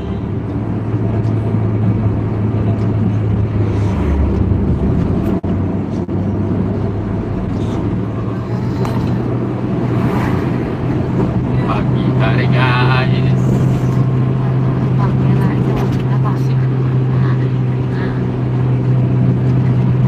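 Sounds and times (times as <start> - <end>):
diesel engine drone: 0.0 - 20.0
road noise: 0.0 - 20.0.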